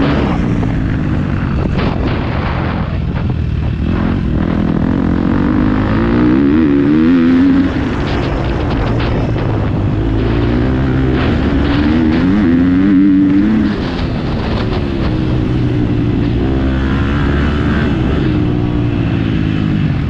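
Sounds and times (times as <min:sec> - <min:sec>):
motocross bike engine accelerating: 0:00.0 - 0:20.0.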